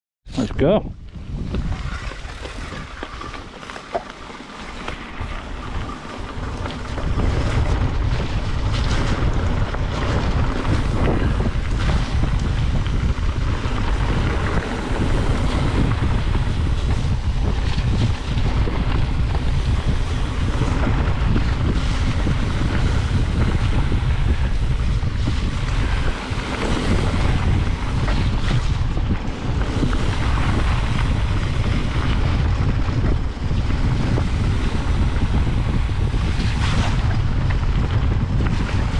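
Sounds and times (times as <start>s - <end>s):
wind buffeting microphone: 0.3s - 38.9s
tyre noise on gravel: 1.0s - 38.9s.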